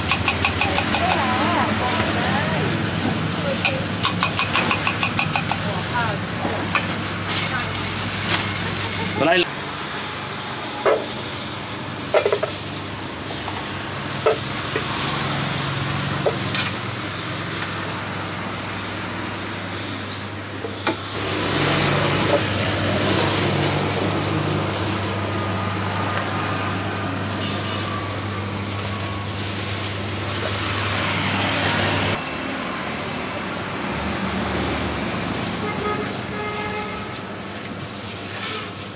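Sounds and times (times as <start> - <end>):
engine humming: 0.0 - 38.9
street traffic: 0.0 - 38.9.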